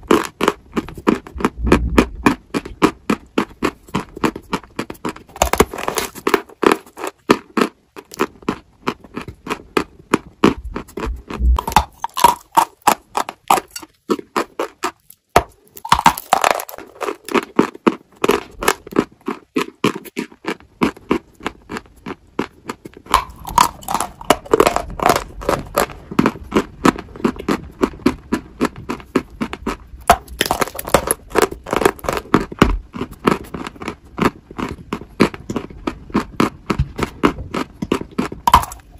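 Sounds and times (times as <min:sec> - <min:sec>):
chewing crunchy chalk: 0:00.0 - 0:38.9.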